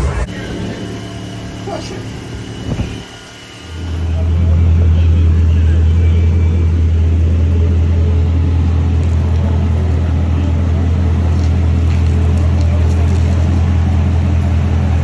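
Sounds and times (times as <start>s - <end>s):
deep car exhaust drone: 0.0s - 15.0s.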